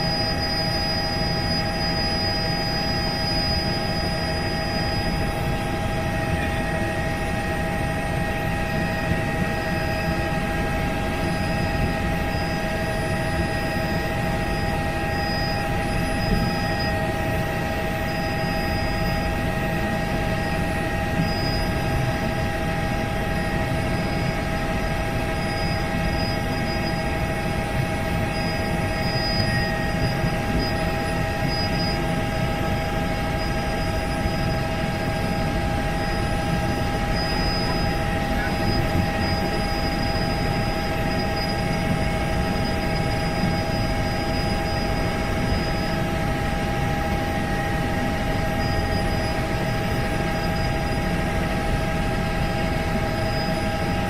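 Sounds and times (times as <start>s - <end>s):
helicopter in flight: 0.0s - 54.0s.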